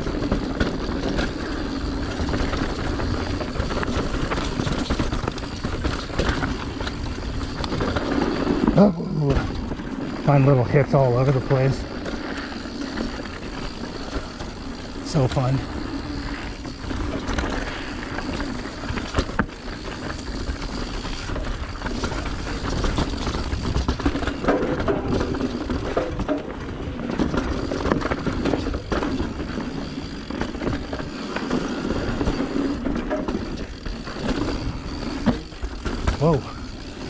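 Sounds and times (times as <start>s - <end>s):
bike rattling over bumps: 0.0s - 37.0s
tyres rolling over dirt and rock: 0.0s - 37.0s.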